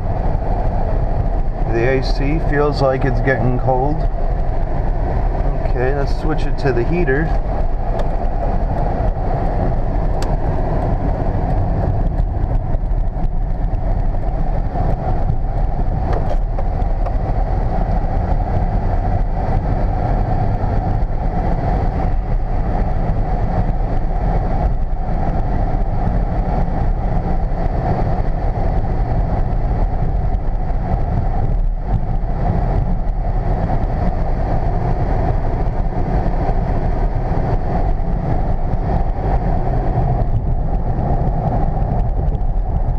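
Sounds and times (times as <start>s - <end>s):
car cabin rumble: 0.0s - 42.9s
climate-control fan blowing: 0.0s - 42.9s.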